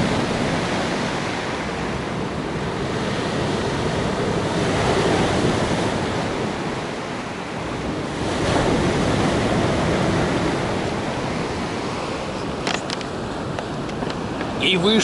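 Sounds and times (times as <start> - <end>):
surf waves washing onto shore: 0.0 - 15.0.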